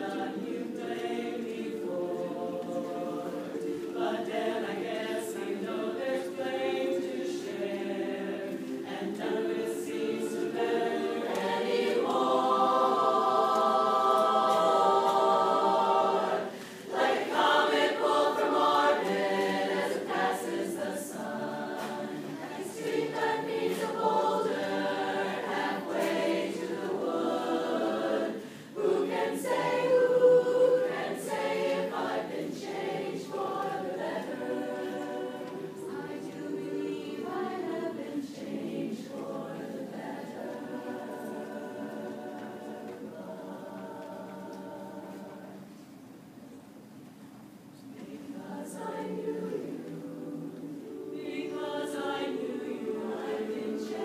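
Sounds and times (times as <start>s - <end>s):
women's chorus singing a cappella: 0.0s - 46.1s, 47.7s - 54.0s.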